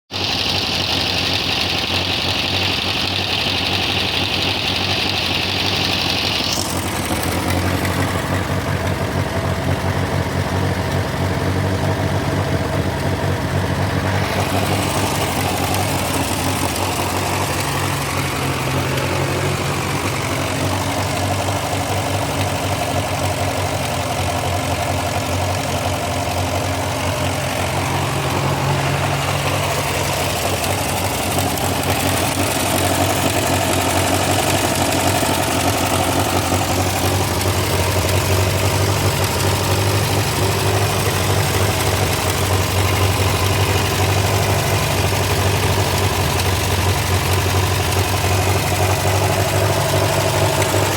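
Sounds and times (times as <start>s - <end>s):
engine ticking and knocking: 0.0s - 50.9s
tractor engine idling: 0.1s - 50.9s.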